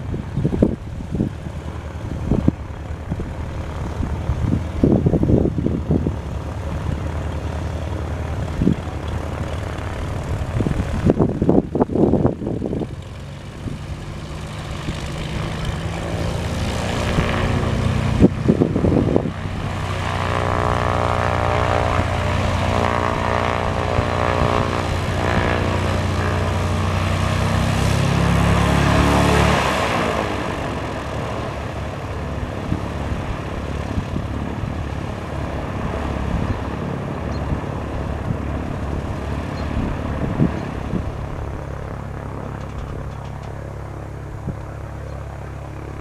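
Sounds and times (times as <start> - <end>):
gusty rumbles: 0.0 - 46.0
light aircraft engine and propeller: 0.0 - 46.0.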